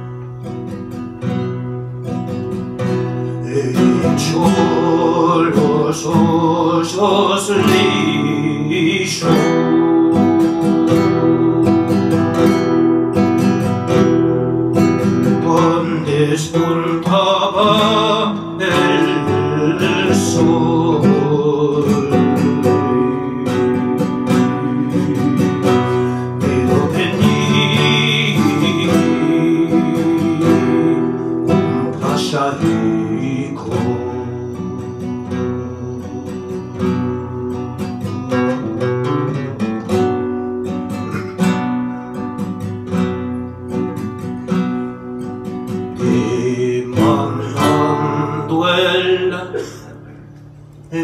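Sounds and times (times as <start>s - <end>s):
nylon-string guitar playing: 0.0s - 51.0s
person singing with vibrato: 2.5s - 38.9s, 45.7s - 51.0s.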